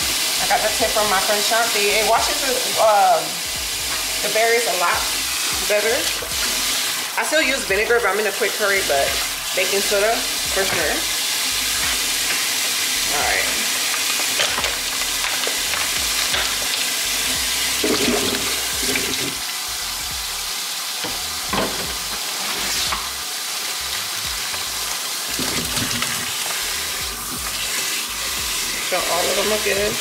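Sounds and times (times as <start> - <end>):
faucet running into a steel sink: 0.2 - 30.0.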